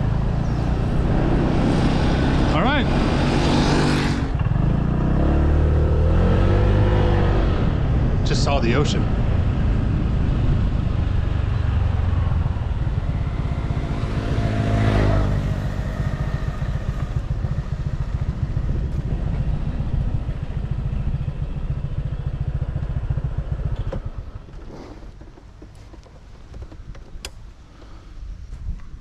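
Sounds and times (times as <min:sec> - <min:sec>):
motorbike engine rumbling: 0:00.0 - 0:28.8.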